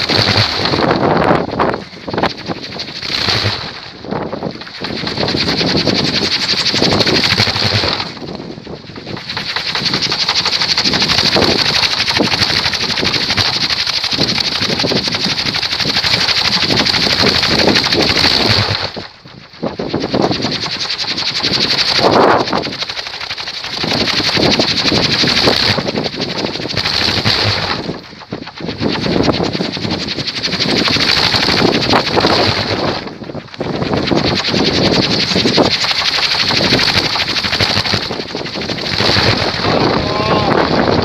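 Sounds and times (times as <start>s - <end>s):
wooden propeller whirring: 0.0s - 41.0s.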